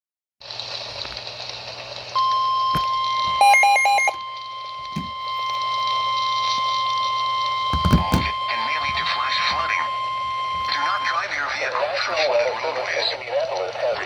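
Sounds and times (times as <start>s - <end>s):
weather radio warning tone: 2.2s - 14.0s.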